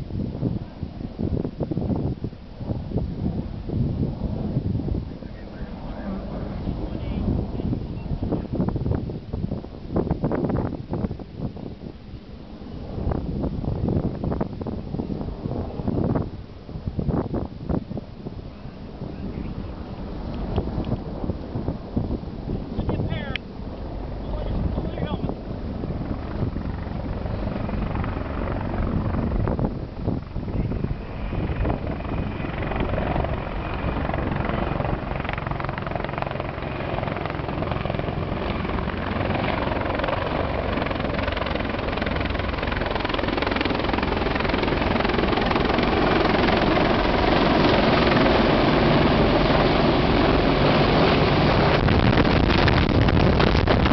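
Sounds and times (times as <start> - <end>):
helicopter rotor and engine noise: 0.0 - 53.9.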